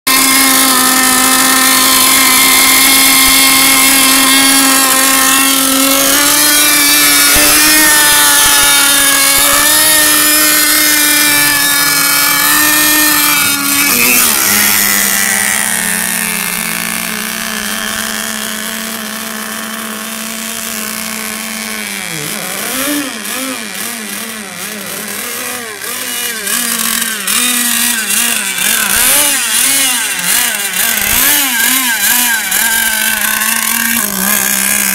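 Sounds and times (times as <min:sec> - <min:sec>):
rc boat engine at full throttle: 0:00.0 - 0:34.9.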